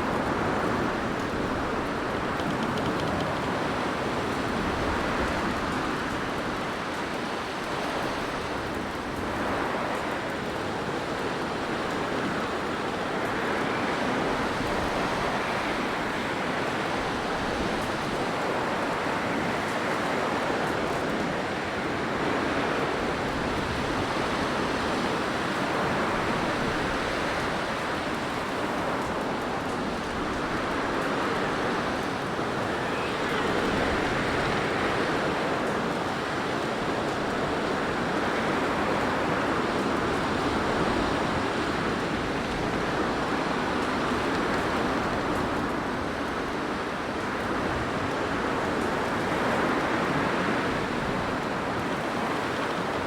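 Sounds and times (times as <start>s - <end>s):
blizzard wind blowing: 0.0s - 53.0s.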